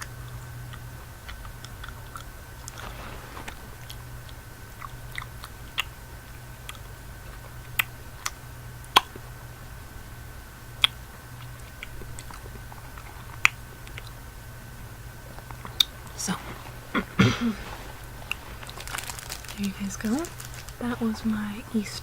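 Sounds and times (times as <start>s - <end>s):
person chewing candy: 0.0s - 21.0s
low hum: 0.0s - 22.0s.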